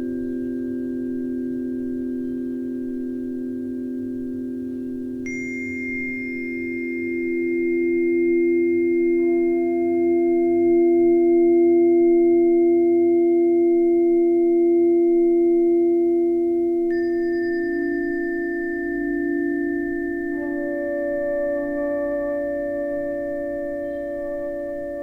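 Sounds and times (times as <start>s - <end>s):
sustained ringing pure tones: 0.0s - 16.3s, 16.9s - 25.0s.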